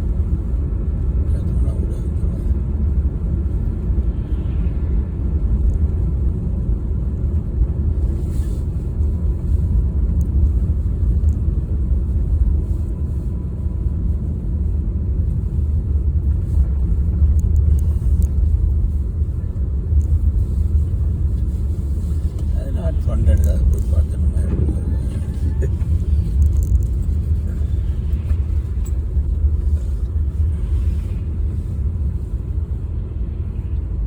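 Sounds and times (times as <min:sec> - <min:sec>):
car driving on road: 0:00.0 - 0:34.0.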